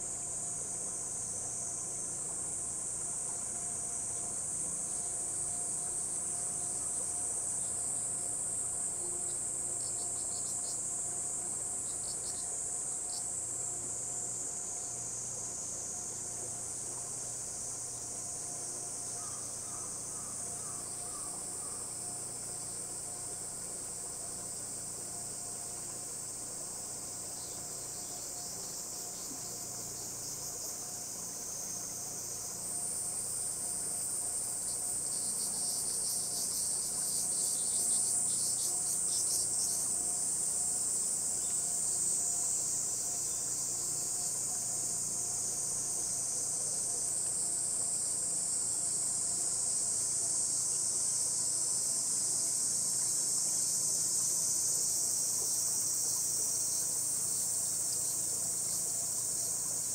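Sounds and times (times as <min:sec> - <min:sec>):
cicadas droning: 0:00.0 - 0:59.9.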